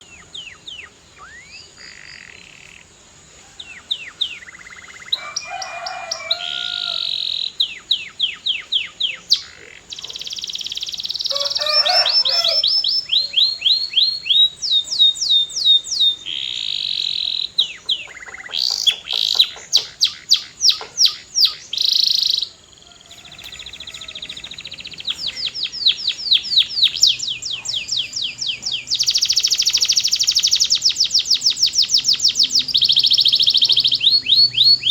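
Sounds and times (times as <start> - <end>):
canary singing: 3.6 - 34.9.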